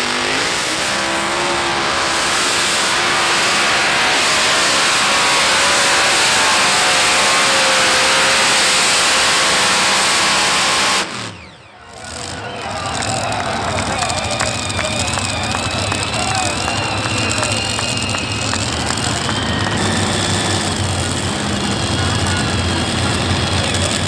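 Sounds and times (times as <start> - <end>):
pulling tractor engine screaming: 0.0 - 24.0.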